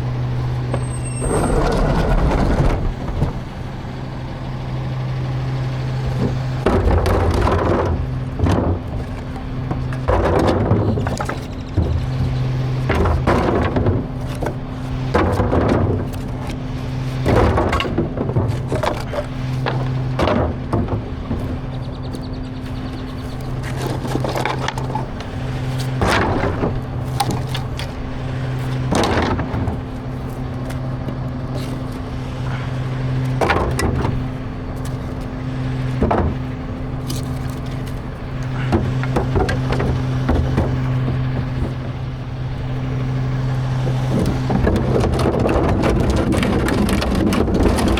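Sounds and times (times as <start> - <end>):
garbage truck engine running: 0.0 - 47.9
trash crashing and cracking: 0.0 - 47.9.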